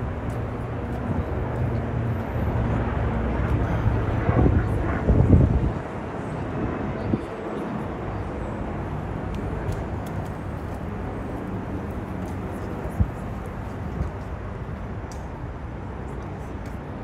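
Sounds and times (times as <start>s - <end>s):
passers-by talking: 0.0s - 17.0s
traffic hum: 0.0s - 17.0s.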